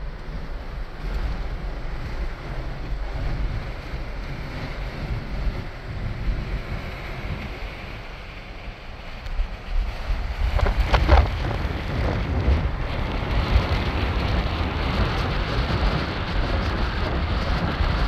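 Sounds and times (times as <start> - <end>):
choppy water: 0.0 - 18.0
wind buffeting microphone: 0.0 - 18.0.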